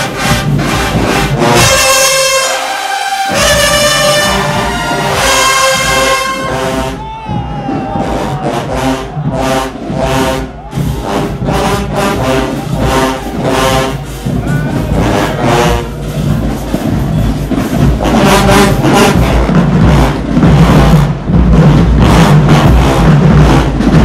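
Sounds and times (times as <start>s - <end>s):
marching band brass playing: 0.0s - 24.0s.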